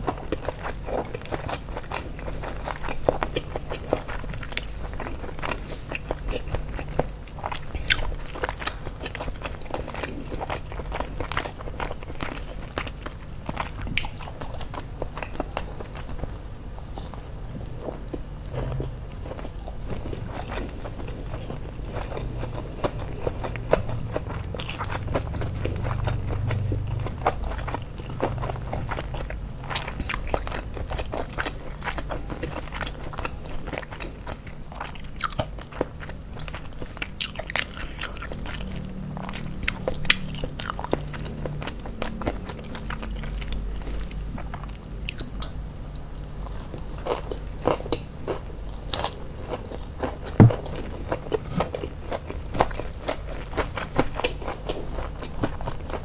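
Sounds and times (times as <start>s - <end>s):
person chewing crispy food: 0.0s - 56.0s.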